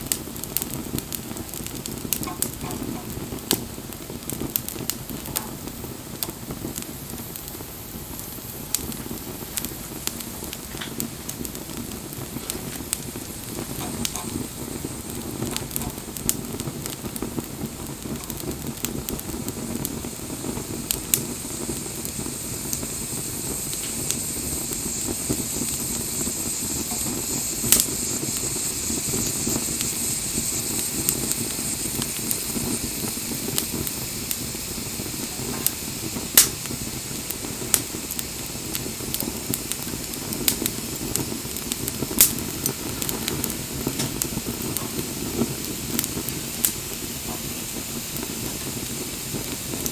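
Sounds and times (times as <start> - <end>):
fire pops and crackles: 0.0 - 49.9
wood fire hissing: 0.0 - 49.9.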